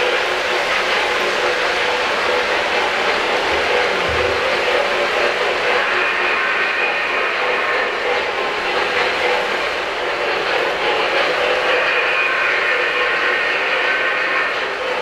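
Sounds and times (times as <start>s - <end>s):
model train wheels rumbling on rail: 0.0s - 15.0s.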